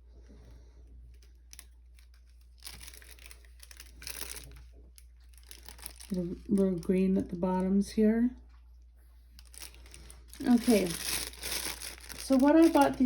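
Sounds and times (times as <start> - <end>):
plastic packaging rustling and crinkling: 0.0 - 7.9, 9.2 - 13.0.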